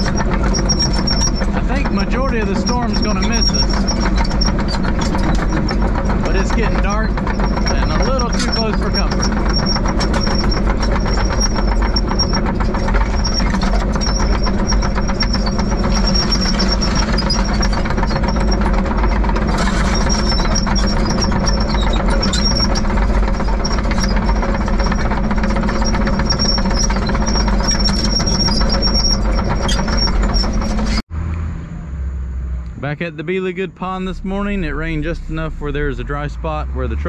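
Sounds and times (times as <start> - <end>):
diesel engine clattering: 0.0 - 37.0.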